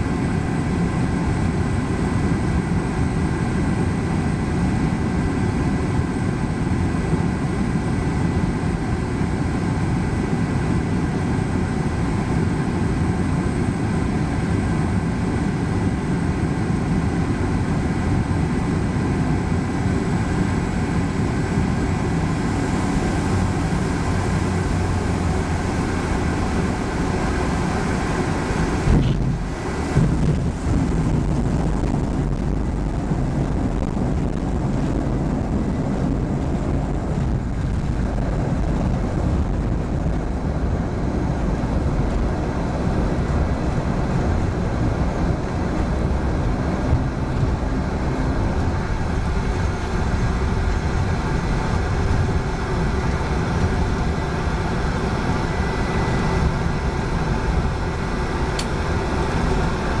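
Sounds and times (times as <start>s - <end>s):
propeller aircraft engine drone: 0.0s - 60.0s.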